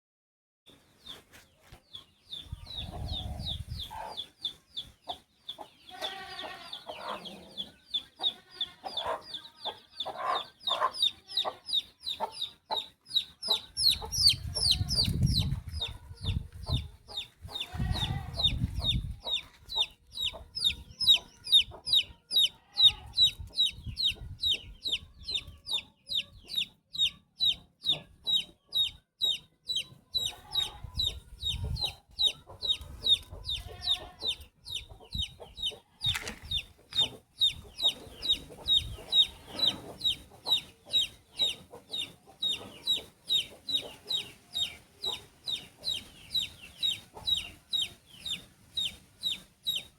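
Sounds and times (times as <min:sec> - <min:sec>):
chick peeping: 0:01.0 - 0:49.9.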